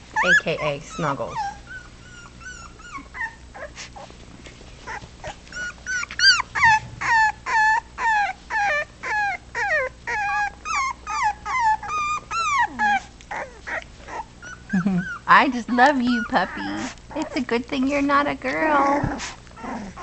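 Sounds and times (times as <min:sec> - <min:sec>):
puppy whining: 0:00.0 - 0:20.0.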